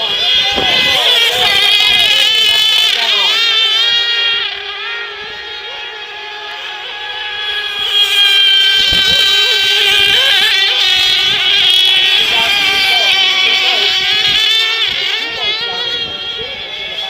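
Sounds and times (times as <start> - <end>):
model boat engines screaming: 0.0 - 17.0.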